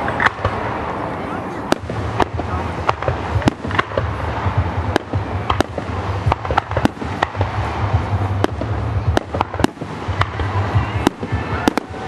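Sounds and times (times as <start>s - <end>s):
fireworks bangs and pops: 0.0s - 1.0s, 1.6s - 12.0s
low rumble: 0.0s - 12.0s.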